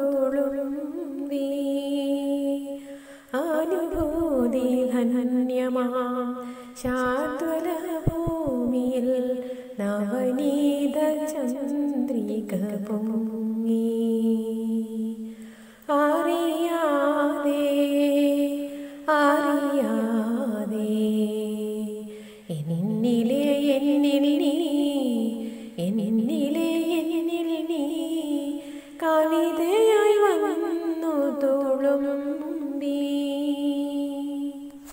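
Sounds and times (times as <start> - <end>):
woman singing a slow melody: 0.0 - 34.9.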